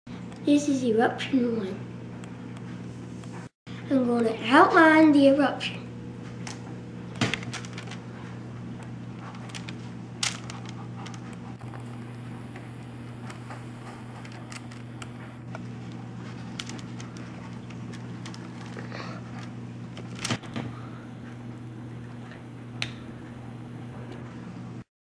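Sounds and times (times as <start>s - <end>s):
low electrical hum: 0.1s - 24.9s.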